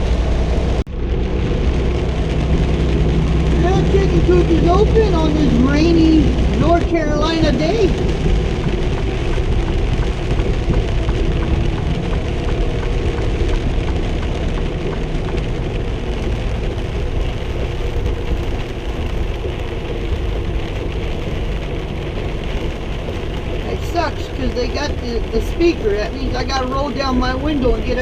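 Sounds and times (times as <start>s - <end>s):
rain on truck cab: 0.0s - 28.0s
truck engine running: 0.0s - 28.0s
tyres on wet road: 0.0s - 28.0s.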